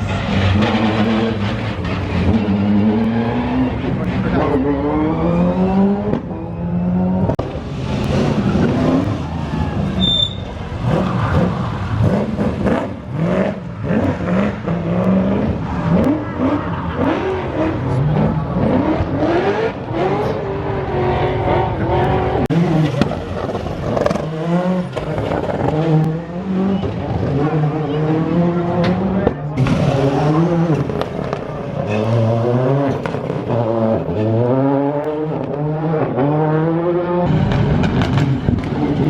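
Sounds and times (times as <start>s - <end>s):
rally car engines accelerating: 0.0s - 39.0s.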